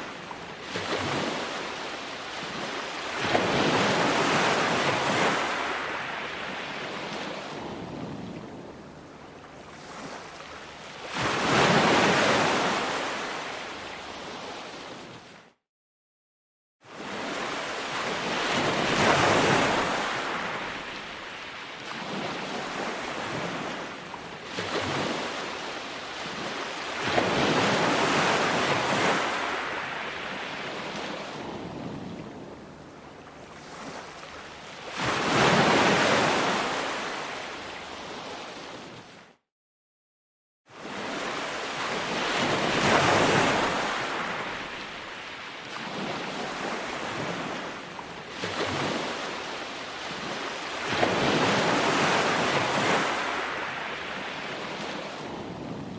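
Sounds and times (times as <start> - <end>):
ocean waves breaking on a beach: 0.0 - 15.6, 16.8 - 39.4, 40.7 - 55.9.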